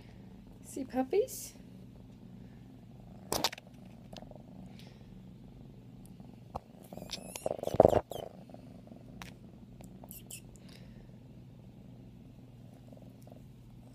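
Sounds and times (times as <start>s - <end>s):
kitten purring: 0.0s - 13.9s.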